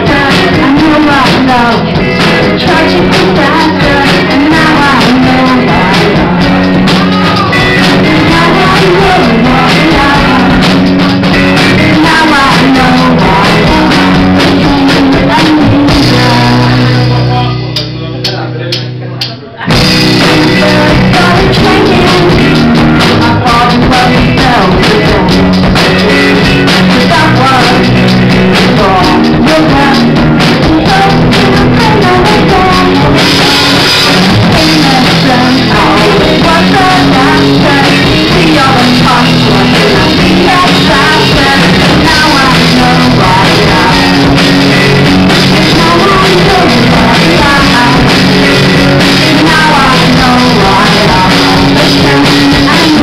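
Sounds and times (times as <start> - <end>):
bass guitar: 0.0 - 53.0
drum kit: 0.0 - 53.0
electric guitar: 0.0 - 53.0.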